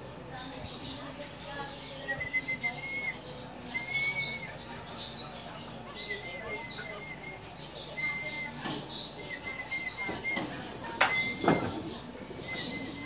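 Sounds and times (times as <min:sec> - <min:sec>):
faint high chirping: 0:00.4 - 0:13.0.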